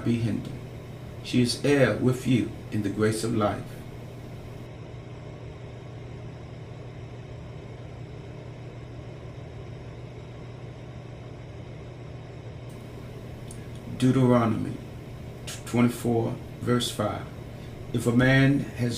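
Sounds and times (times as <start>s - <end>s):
low hum: 0.0s - 18.9s
soft noise bed: 0.0s - 18.9s.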